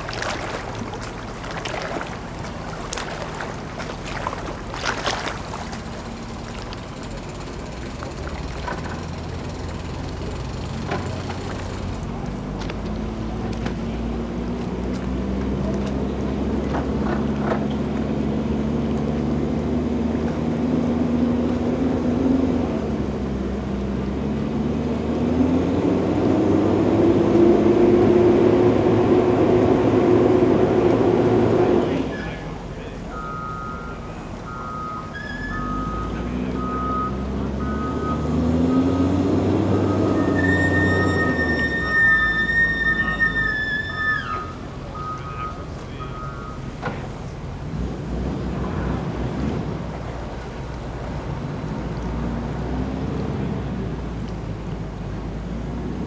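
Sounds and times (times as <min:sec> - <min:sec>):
outboard motors running: 0:00.0 - 0:25.1, 0:26.0 - 0:56.0.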